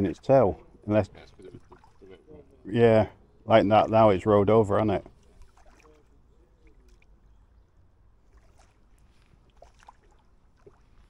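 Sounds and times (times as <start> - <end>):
faint outdoor hum: 0.0 - 11.0.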